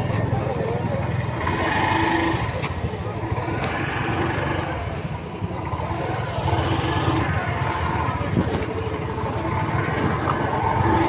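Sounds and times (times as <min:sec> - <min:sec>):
scooter and motorcycle engines rumbling: 0:00.0 - 0:11.0
voices in background: 0:00.0 - 0:11.0.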